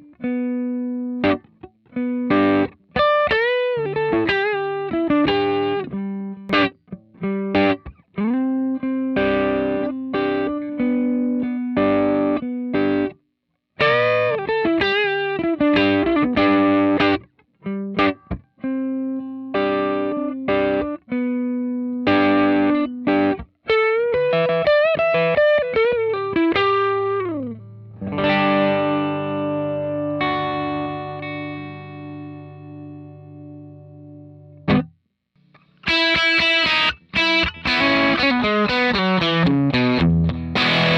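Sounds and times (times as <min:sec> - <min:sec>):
electric guitar playing: 0:00.0 - 0:13.2, 0:13.8 - 0:35.0, 0:35.6 - 0:40.9.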